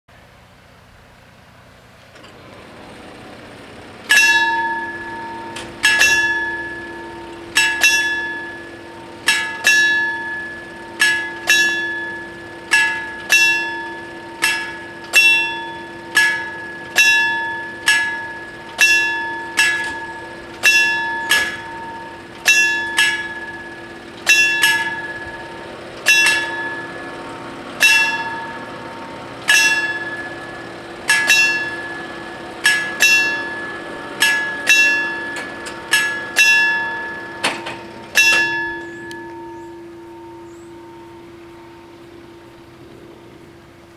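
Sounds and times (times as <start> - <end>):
steady hum: 0.1 - 43.9
electric warning bells ringing: 2.1 - 43.9.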